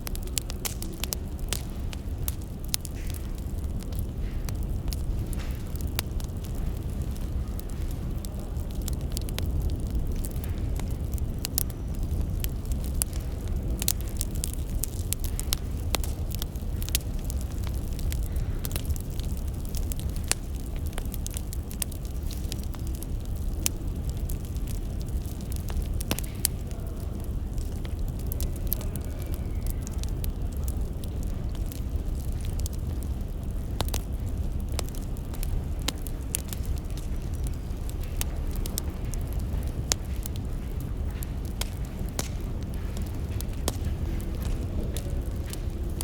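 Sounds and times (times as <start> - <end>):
firewood crackling and popping: 0.0 - 46.0
low fire rumble: 0.0 - 46.0.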